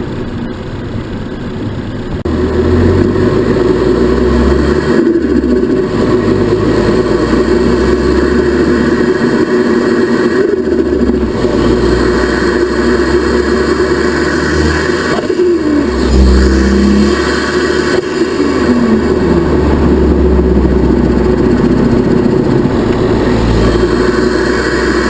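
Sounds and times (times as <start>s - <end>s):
turbocharged engine accelerating: 0.0s - 25.0s.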